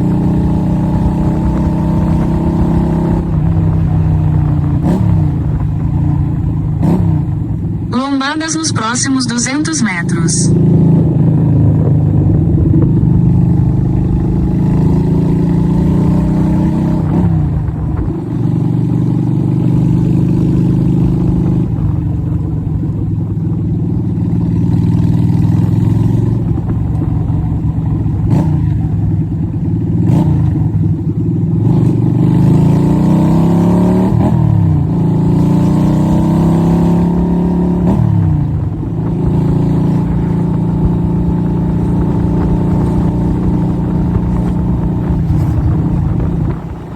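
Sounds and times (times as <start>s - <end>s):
motorcycle engine revving: 0.0s - 8.1s, 10.5s - 46.9s.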